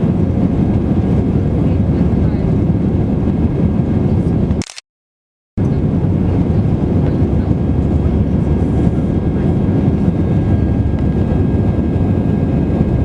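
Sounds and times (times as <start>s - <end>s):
airplane cabin engine drone: 0.0s - 4.6s, 5.6s - 13.0s.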